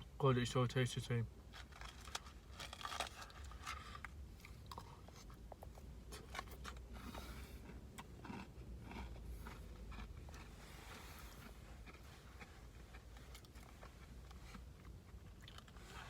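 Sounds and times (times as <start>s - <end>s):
person chewing and crunching: 1.6s - 16.0s.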